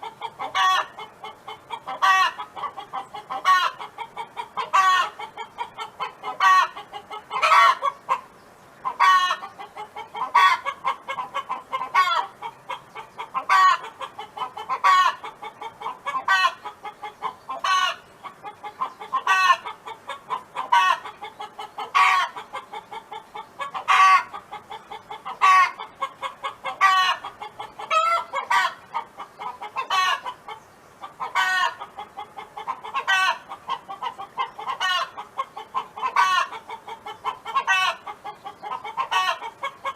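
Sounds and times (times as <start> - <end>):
hen calling: 0.0 - 39.9
hen clucking: 0.0 - 39.9.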